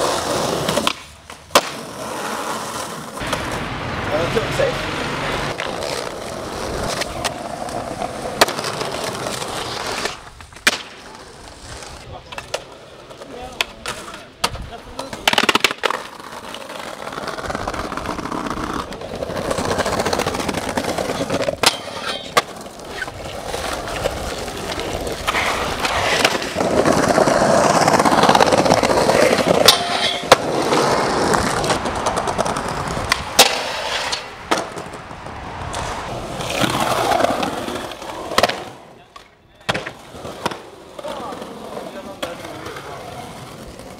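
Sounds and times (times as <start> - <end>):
skateboard clacks: 0.0 - 3.7, 4.7 - 43.9
skateboard wheels rolling on concrete: 0.0 - 43.9.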